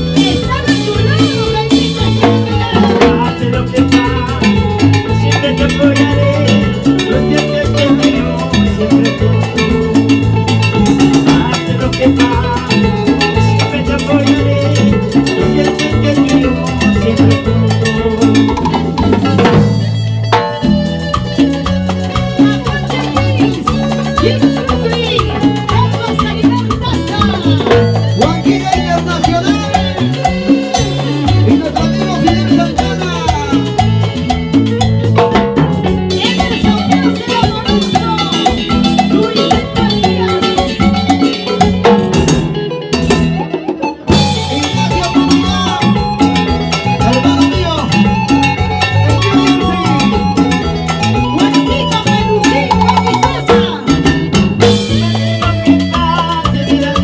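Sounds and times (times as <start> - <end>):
salsa band playing: 0.0 - 57.0.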